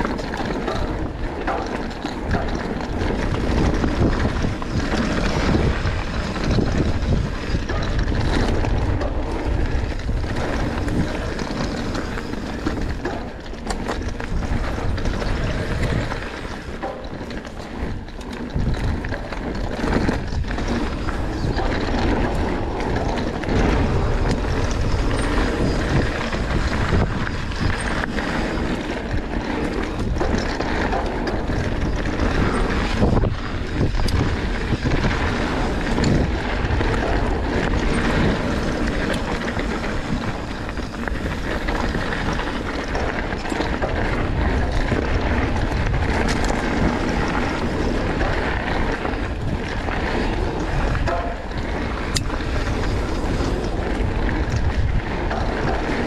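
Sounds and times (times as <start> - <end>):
bike clicks and knocks: 0.0 - 56.0
bike tyre rumble: 0.0 - 56.0
wind buffeting microphone: 0.0 - 56.0.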